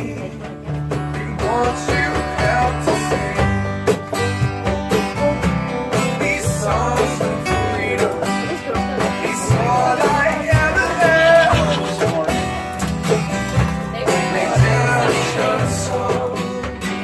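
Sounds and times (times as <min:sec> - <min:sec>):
person singing: 0:00.0 - 0:12.8, 0:13.5 - 0:17.0
acoustic guitars strummed and picked: 0:00.0 - 0:17.0.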